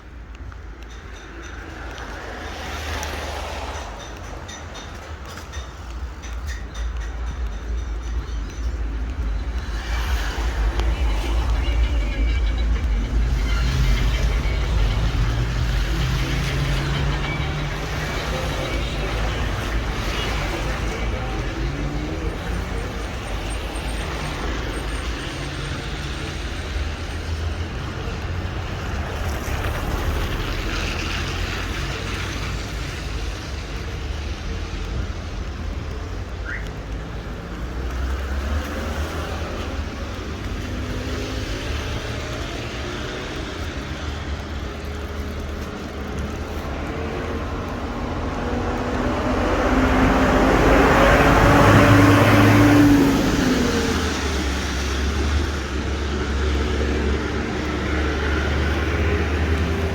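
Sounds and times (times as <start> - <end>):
road traffic on wet street: 0.0 - 59.9.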